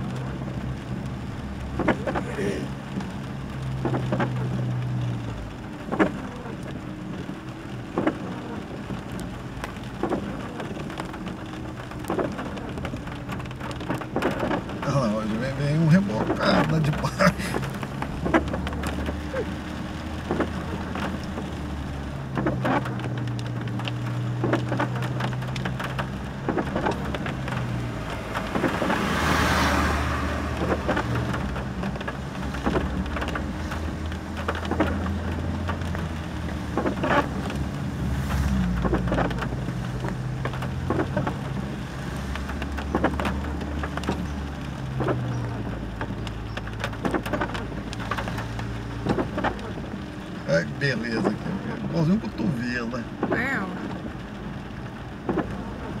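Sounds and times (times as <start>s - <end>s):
car engine hum: 0.0s - 56.0s
rain on car roof: 0.0s - 56.0s.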